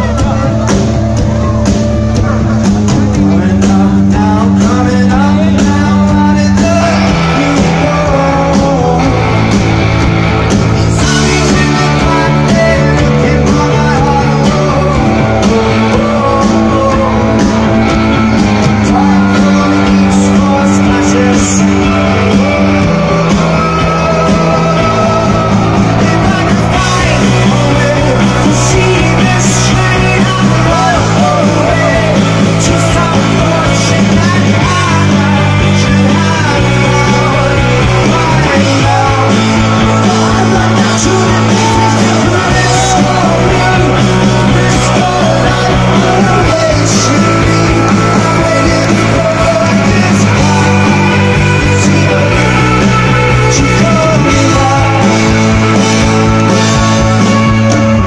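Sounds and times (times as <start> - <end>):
bass line: 0.0 - 58.0
person singing: 0.0 - 58.0
rock band playing live: 0.0 - 58.0.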